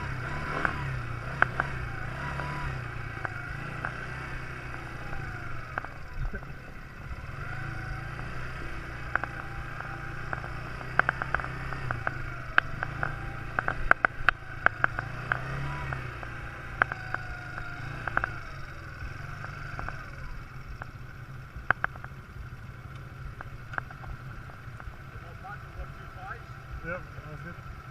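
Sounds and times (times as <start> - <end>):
quad bike engine running: 0.0 - 27.9
sharp clicks and rattles: 0.5 - 6.9, 7.5 - 27.8.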